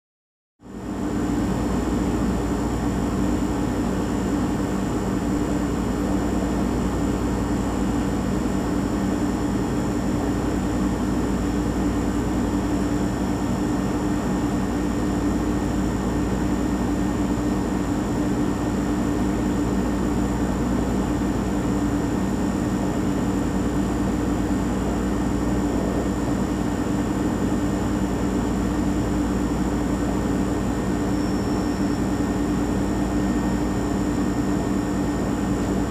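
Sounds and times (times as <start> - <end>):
refrigerator compressor humming: 0.6 - 35.9.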